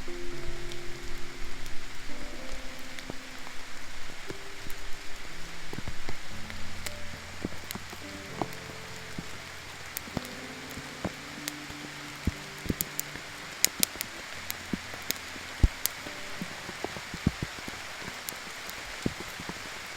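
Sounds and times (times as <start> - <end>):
rain falling: 0.0 - 19.9
raindrops tapping a surface: 0.0 - 19.9.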